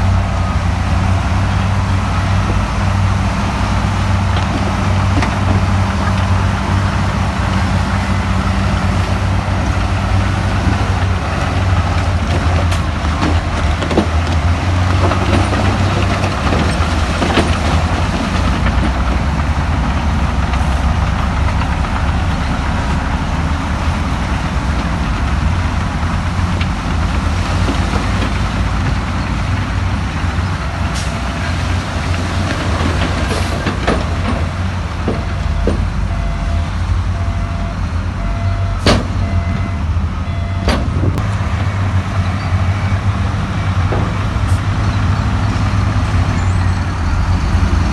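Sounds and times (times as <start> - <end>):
heavy diesel machine engine drone: 0.0 - 47.9.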